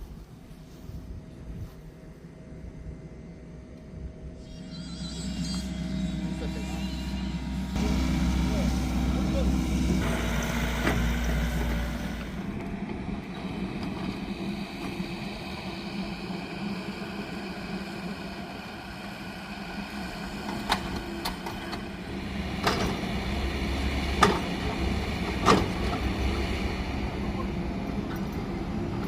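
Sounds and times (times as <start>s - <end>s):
engine running: 1.6s - 29.0s.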